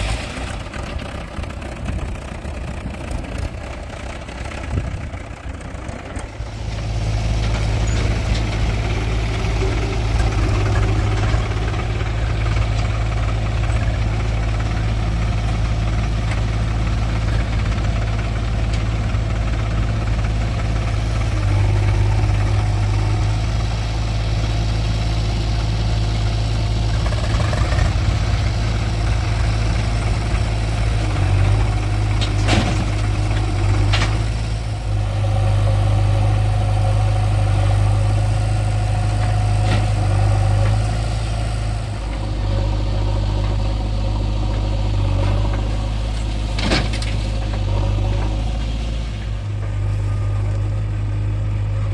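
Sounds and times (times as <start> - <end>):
diesel engines humming at low revs: 0.0 - 51.9.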